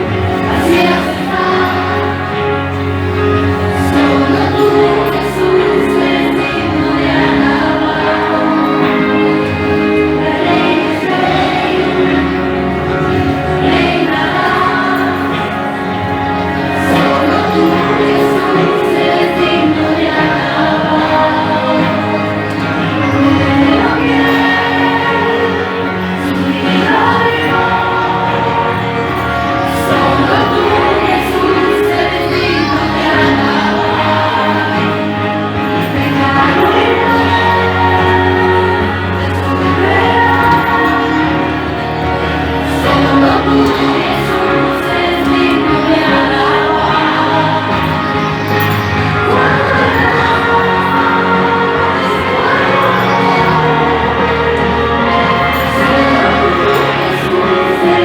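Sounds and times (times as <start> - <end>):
backing music: 0.0 - 58.0
group singing praise song: 0.0 - 58.0
instrumental accompaniment: 0.0 - 58.0.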